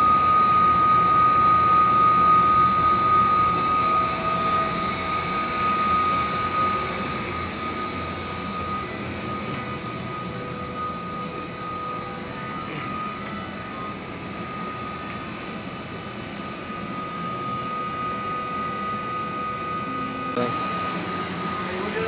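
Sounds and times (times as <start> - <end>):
high steady whining tones: 0.0 - 22.0
machinery air rush: 0.0 - 22.0.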